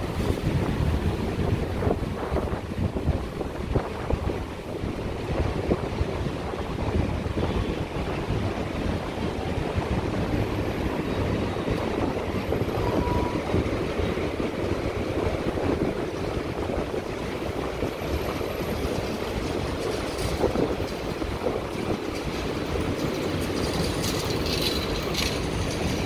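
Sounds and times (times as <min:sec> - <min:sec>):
city street traffic rumble: 0:00.0 - 0:26.0
wind buffeting microphone: 0:00.0 - 0:26.0.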